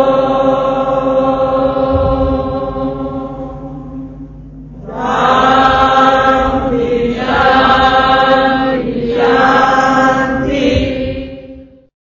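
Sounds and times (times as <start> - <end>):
devotional chanting: 0.0 - 11.9
steady drone: 0.0 - 11.9.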